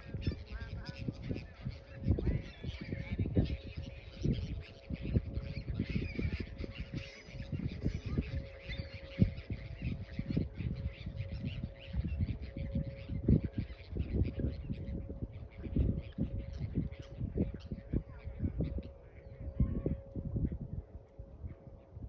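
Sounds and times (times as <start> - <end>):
birds chirping and squawking: 0.0 - 20.6.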